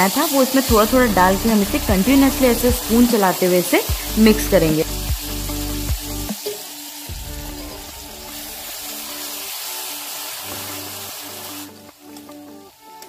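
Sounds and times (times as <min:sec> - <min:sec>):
background music: 0:00.0 - 0:13.0
food sizzling in hot fat: 0:00.0 - 0:13.0.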